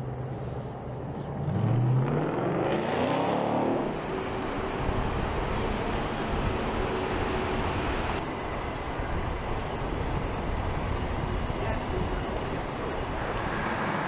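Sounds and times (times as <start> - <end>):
traffic rumble and hiss: 0.0 - 14.0.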